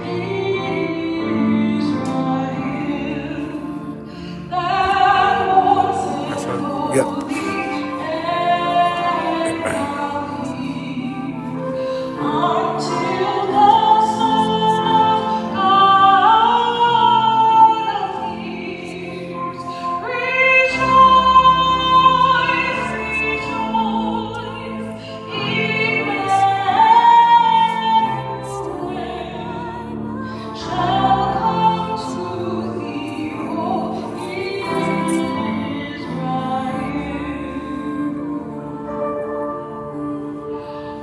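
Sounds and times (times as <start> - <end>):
sustained instrumental accompaniment: 0.0 - 41.0
woman singing with vibrato: 0.0 - 41.0.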